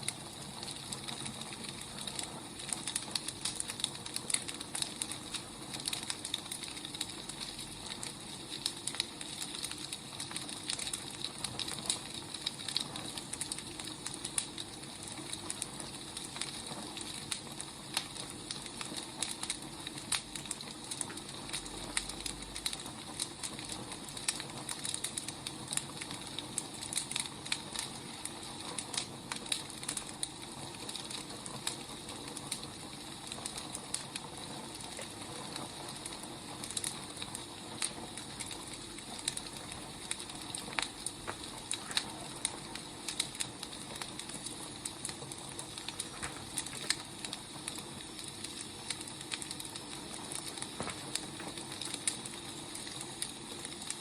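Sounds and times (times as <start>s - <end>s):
firewood crackling and popping: 0.0s - 54.0s
steady hiss: 0.0s - 54.0s.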